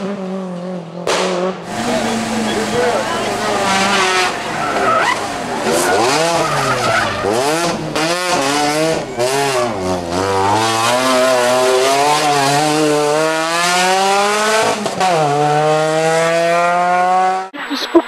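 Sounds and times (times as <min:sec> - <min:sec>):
car engine revving hard: 0:00.0 - 0:17.5.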